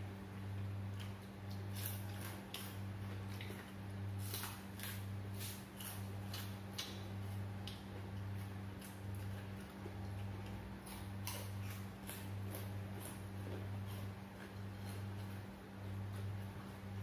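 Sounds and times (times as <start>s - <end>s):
low electrical hum: 0.0s - 17.0s
chewing crunchy food: 0.6s - 17.0s.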